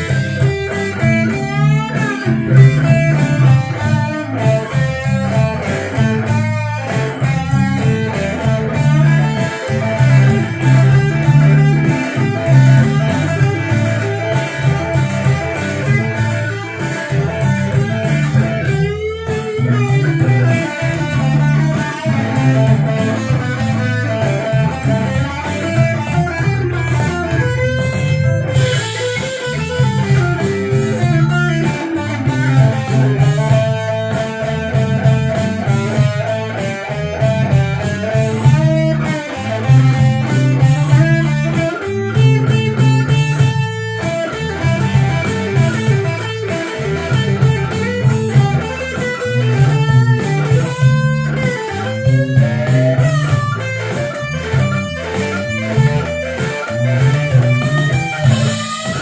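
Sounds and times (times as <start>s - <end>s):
bass line: 0.0s - 59.0s
electric guitar music: 0.0s - 59.0s.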